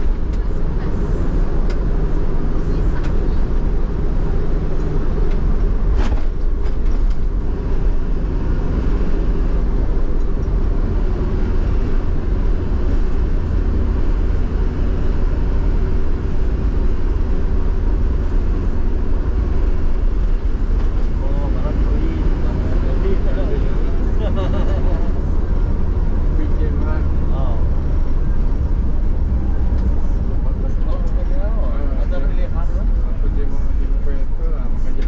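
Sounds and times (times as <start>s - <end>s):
car engine hum: 0.0s - 35.0s.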